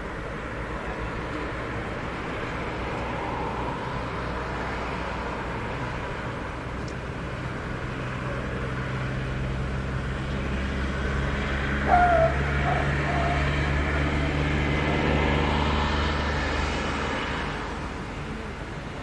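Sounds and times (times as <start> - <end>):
road traffic noise: 0.0 - 19.0
vehicle engine low hum: 0.0 - 19.0.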